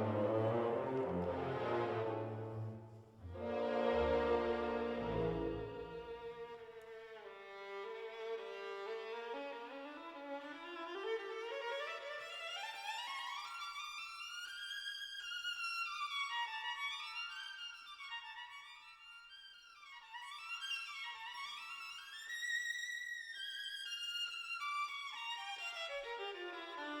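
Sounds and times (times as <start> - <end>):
solo violin slow melody: 0.0 - 27.0.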